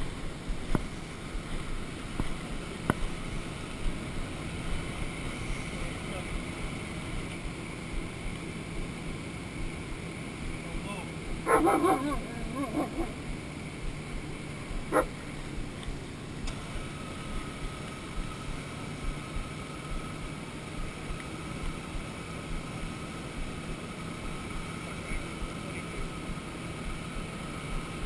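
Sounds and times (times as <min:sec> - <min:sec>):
faint steady whine: 0:00.0 - 0:28.0
vehicle engine running: 0:00.0 - 0:28.0.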